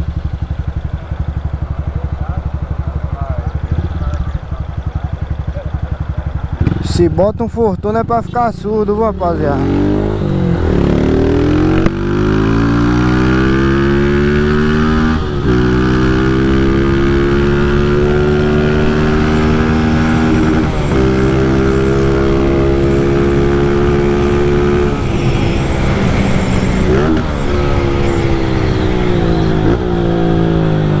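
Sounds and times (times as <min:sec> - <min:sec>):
motorcycle accelerating through gears: 0:00.0 - 0:07.4, 0:08.0 - 0:31.0.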